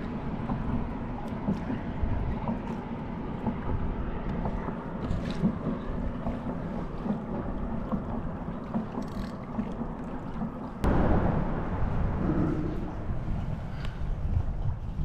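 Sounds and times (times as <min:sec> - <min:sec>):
choppy water sloshing: 0:00.0 - 0:15.0
wind rumble on microphone: 0:00.0 - 0:15.0.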